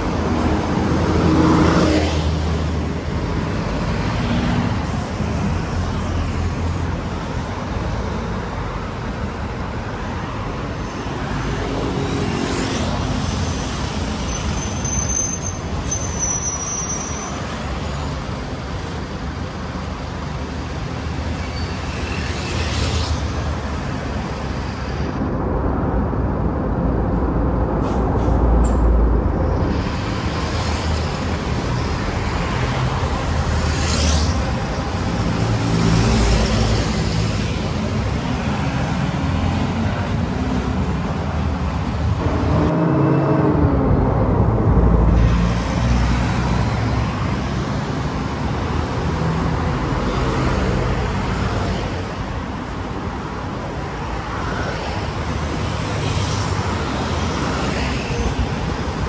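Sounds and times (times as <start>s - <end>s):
bus engines: 0.0s - 59.0s.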